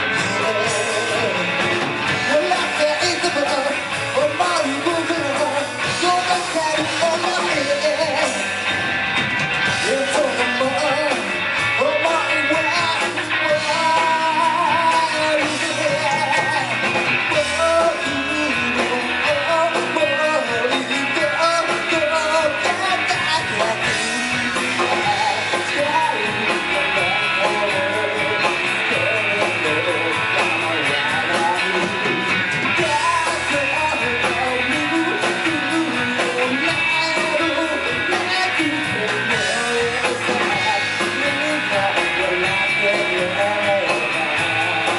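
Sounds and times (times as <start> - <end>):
person singing: 0.0 - 8.6, 9.6 - 44.9
drums: 0.0 - 44.9
electric guitars: 0.0 - 44.9.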